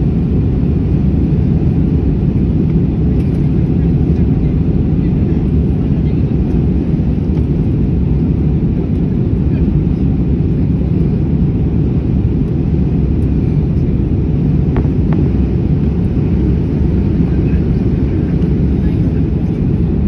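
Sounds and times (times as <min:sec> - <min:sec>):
airplane engine rumble in flight: 0:00.0 - 0:20.0.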